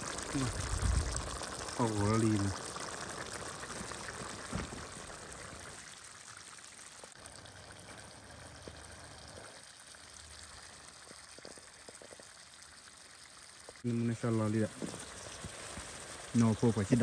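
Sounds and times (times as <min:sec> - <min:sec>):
stew simmering hiss: 0:00.0 - 0:17.0.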